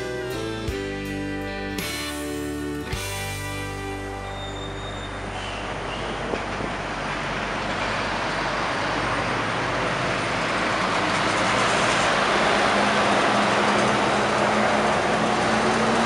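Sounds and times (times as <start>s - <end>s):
truck diesel engine: 0.0s - 16.0s
rolling tyre noise: 1.9s - 16.0s.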